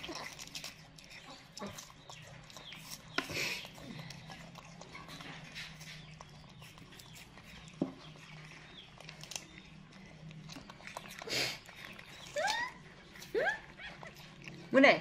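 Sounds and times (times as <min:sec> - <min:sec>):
monkeys crunching apples: 0:00.0 - 0:15.0.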